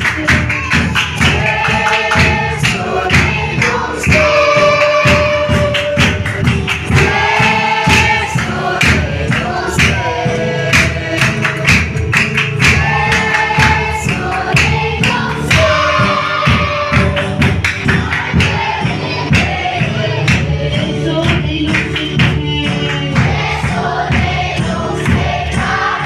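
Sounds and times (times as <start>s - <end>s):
choir singing gospel: 0.0s - 26.0s
steady drum beat: 0.0s - 26.0s.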